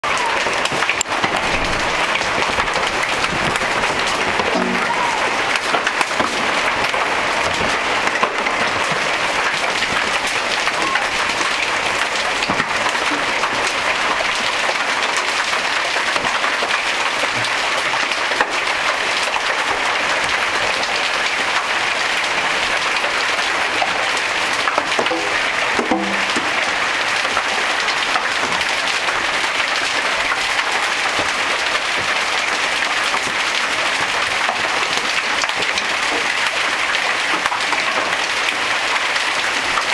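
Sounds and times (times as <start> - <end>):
hailstones clattering: 0.0 - 39.9.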